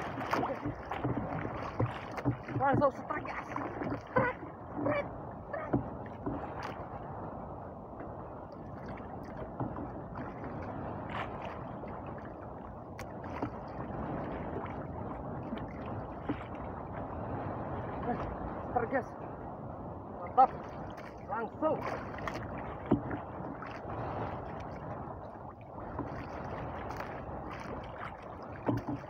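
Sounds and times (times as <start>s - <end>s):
water slapping against hull: 0.0s - 29.0s.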